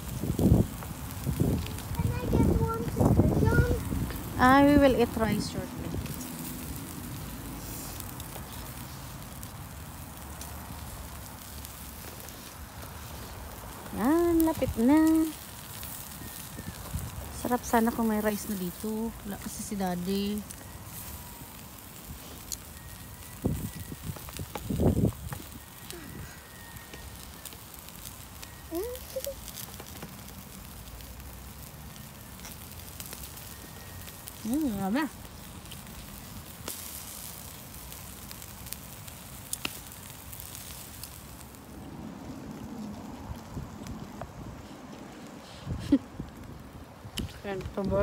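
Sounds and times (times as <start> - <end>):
grill sizzling: 0.0 - 48.0
sharp crackles: 0.0 - 48.0.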